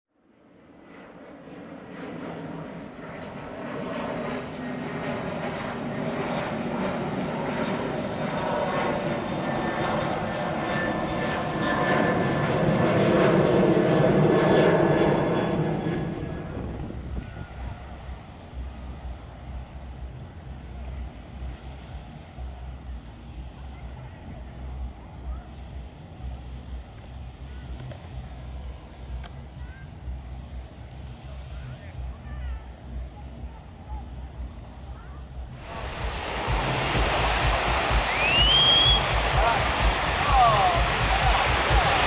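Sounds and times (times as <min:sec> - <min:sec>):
jet airliner flying overhead: 0:00.2 - 0:42.0.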